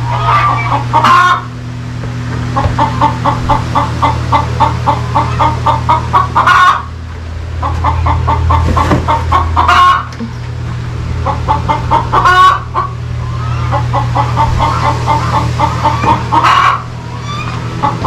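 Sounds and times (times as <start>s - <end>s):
hen cackling and squawking: 0.0s - 1.5s, 2.6s - 6.9s, 7.6s - 10.1s, 11.2s - 18.0s
steady low hum: 0.0s - 18.0s.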